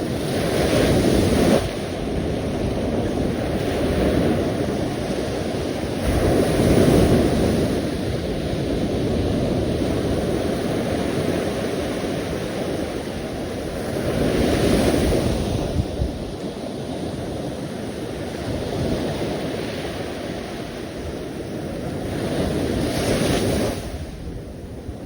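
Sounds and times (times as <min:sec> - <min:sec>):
ocean waves on shore: 0:00.0 - 0:25.0
wind rumble on microphone: 0:00.0 - 0:25.0.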